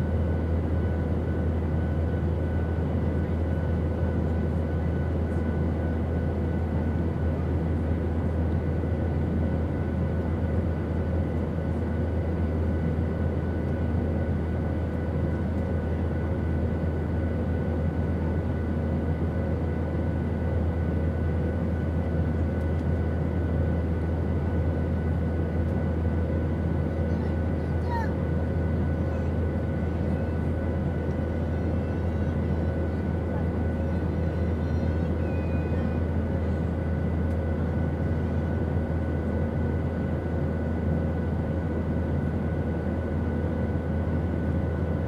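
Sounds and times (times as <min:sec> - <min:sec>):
airplane drone: 0:00.0 - 0:45.0.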